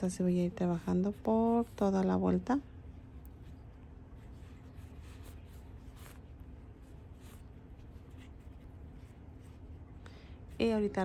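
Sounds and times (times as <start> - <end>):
low steady background noise: 0.0 - 11.0
crochet hook rubbing yarn: 0.4 - 2.6, 3.2 - 11.0.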